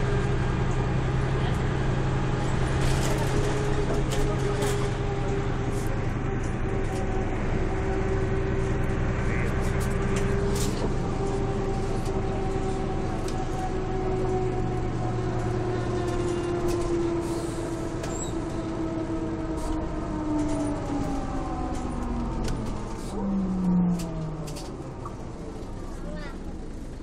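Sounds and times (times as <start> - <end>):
bus engine and gearbox whine: 0.0 - 27.0.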